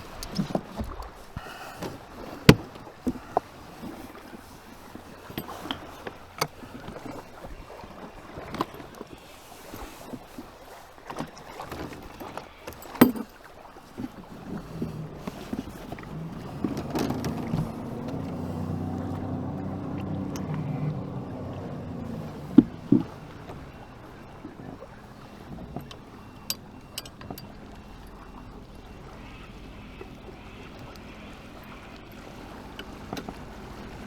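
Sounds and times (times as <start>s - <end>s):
jet ski engine hum: 0.0s - 34.0s.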